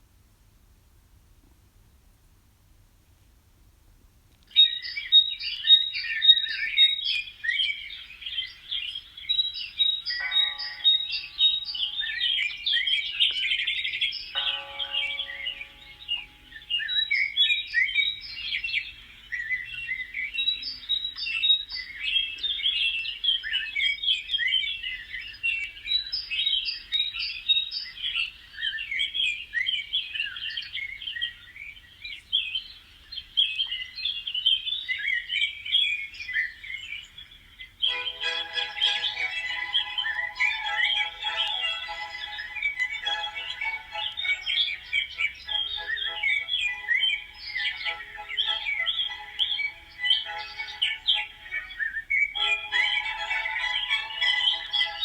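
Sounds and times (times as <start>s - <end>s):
low steady bird calls: 4.4s - 55.0s
small birds chirping: 4.4s - 55.0s.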